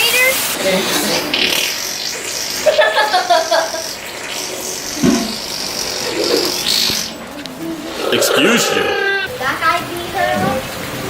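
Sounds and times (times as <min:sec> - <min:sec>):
rain hissing: 0:00.0 - 0:11.0
water splashing: 0:00.0 - 0:11.0.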